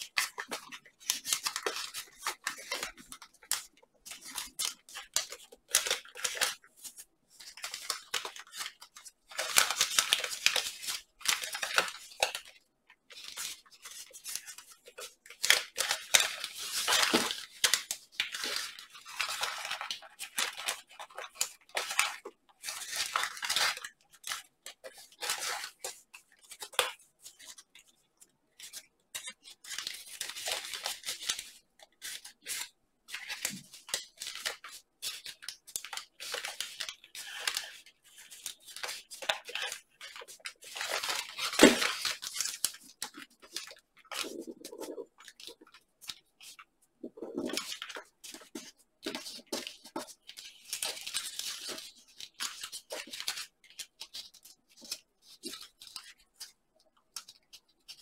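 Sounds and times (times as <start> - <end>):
paper rustling and crinkling: 0.0 - 58.0.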